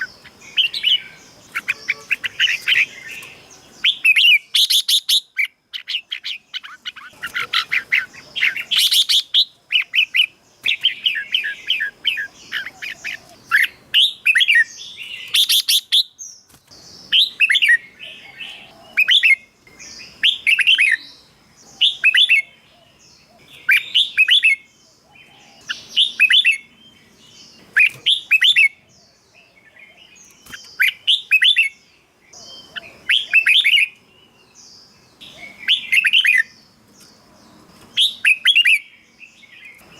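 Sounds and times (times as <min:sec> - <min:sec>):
bird song chattering: 0:00.0 - 0:39.9.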